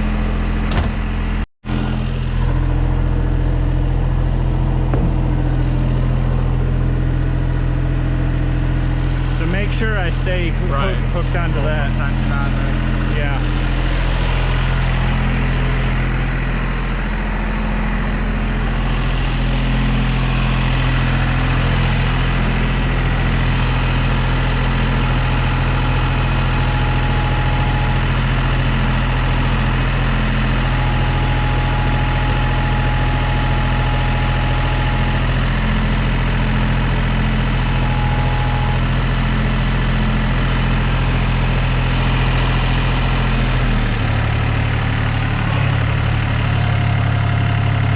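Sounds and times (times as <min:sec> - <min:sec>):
tractor engine idling: 0:00.0 - 0:47.9.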